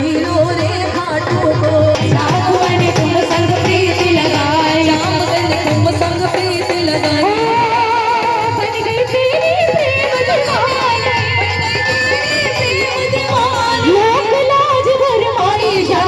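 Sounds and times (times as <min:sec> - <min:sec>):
hand drum rhythm: 0:00.0 - 0:16.0.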